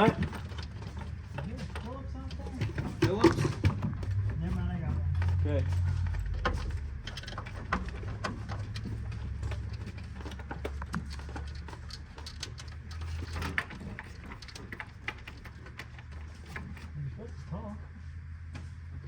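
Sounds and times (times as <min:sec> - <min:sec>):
hand tools clicking and tapping: 0:00.0 - 0:16.9
low hum: 0:00.0 - 0:19.0.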